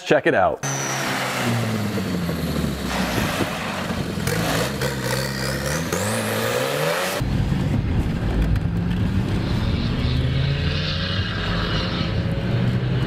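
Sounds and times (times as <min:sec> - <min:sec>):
tractor engine roaring: 0:00.6 - 0:13.0.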